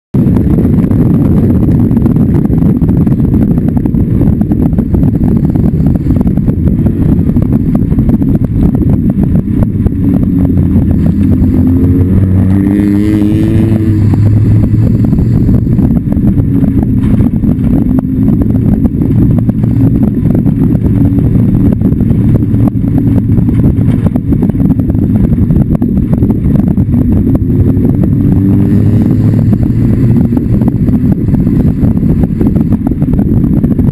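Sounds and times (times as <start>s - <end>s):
race car engine at speed: 0.1s - 33.9s.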